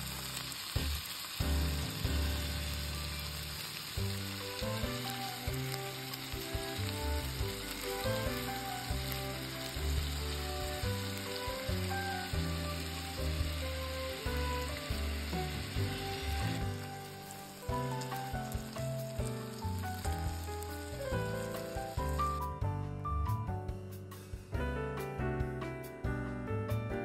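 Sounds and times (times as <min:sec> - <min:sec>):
patties sizzling in oil: 0:00.0 - 0:22.6
background music with bass: 0:00.0 - 0:27.0.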